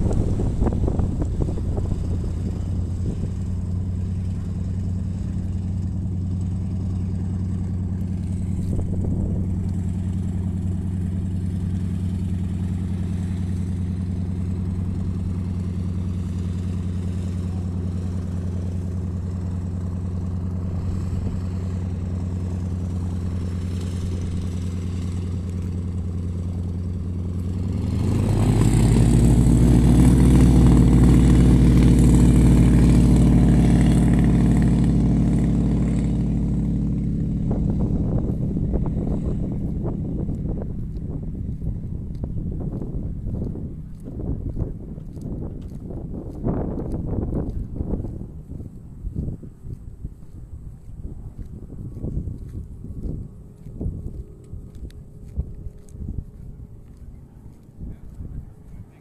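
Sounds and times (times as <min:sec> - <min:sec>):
light aircraft engine: 0:00.0 - 0:59.0.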